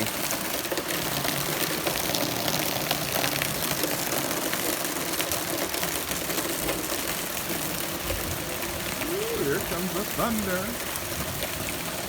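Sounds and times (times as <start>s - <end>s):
rain drips and splashes: 0.0s - 12.0s
steady rain hiss: 0.0s - 12.0s.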